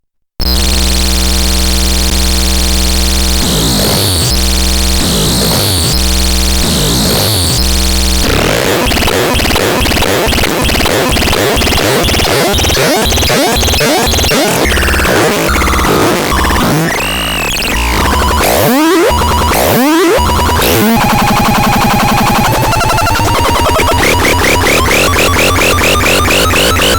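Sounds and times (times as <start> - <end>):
harsh synthesizer noise: 0.4 - 26.9.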